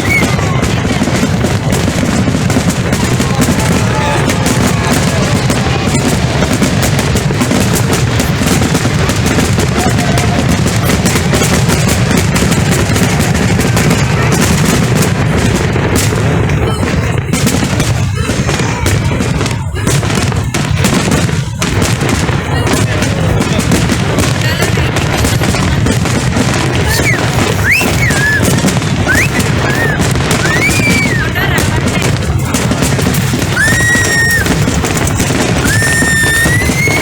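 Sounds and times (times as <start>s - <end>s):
firework whistles: 0.0s - 23.0s, 23.6s - 37.0s
fireworks bangs and crackles: 0.0s - 37.0s.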